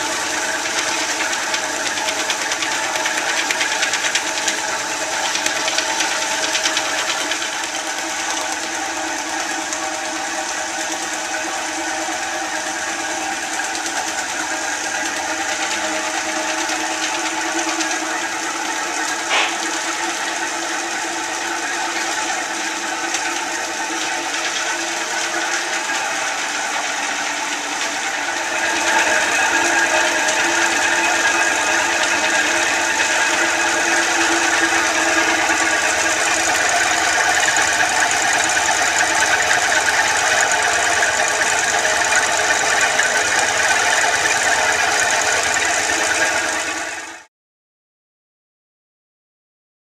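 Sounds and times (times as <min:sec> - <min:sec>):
vibratory lap machine running: 0:00.0 - 0:47.3.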